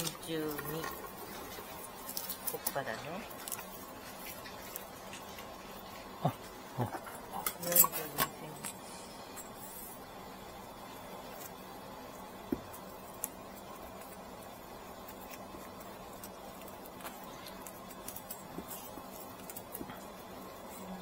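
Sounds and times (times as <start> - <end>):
steady low hum: 0.0 - 21.0
straw rope rustling: 0.0 - 21.0.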